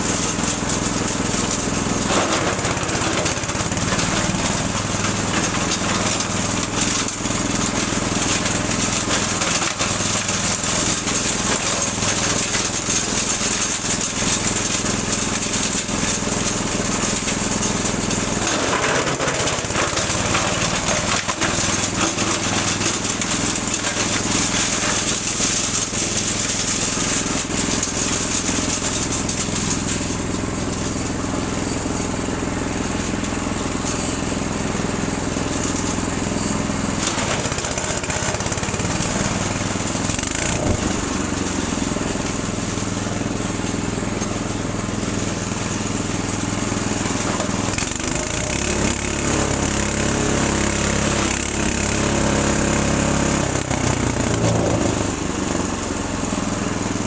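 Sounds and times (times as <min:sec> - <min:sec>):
wood chipper engine running: 0:00.0 - 0:57.0.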